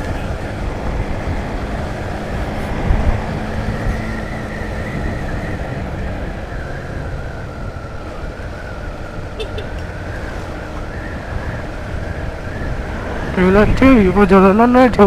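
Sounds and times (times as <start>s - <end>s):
motorcycle engine cruising: 0.0s - 15.0s
wind and road rush: 0.0s - 15.0s.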